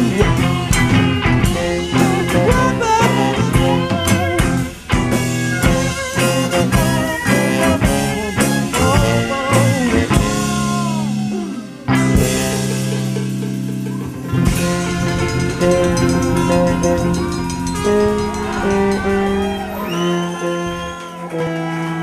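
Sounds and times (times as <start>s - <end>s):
blues-rock band music: 0.0s - 22.0s
drums keeping a steady beat: 0.0s - 22.0s
electric guitar: 0.0s - 22.0s.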